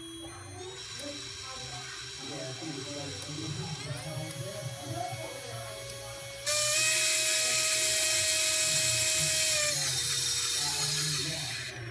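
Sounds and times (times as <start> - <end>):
quadcopter motors whining: 0.0 - 11.9.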